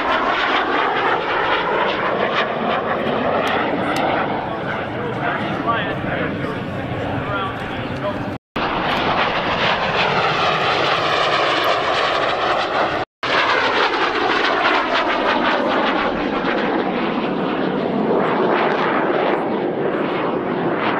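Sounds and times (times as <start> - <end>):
jet flyby whine: 0.0 - 20.9.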